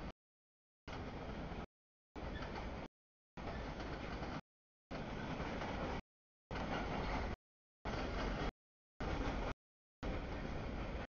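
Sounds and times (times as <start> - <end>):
freight train wheels rumbling on rail: 0.9 - 11.0.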